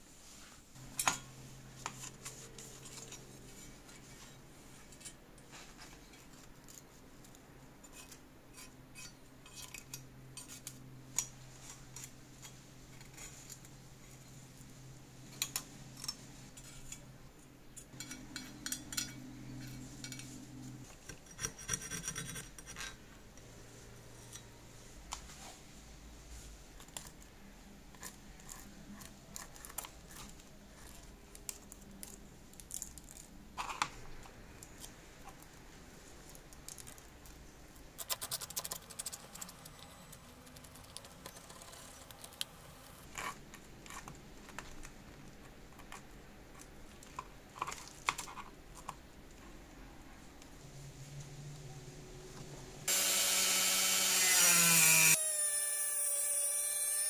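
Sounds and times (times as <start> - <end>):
low steady hum: 0.0 - 54.8.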